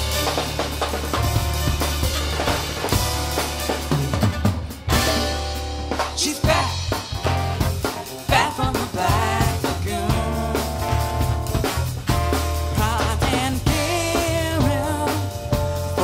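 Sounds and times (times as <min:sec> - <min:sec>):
drum kit: 0:00.0 - 0:16.0
live band playing: 0:00.0 - 0:16.0.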